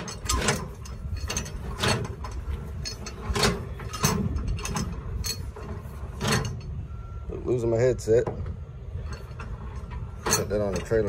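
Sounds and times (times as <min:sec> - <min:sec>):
metal clanks and ratcheting clicks: 0:00.0 - 0:07.0, 0:08.2 - 0:11.0
low steady rumble: 0:00.0 - 0:11.0.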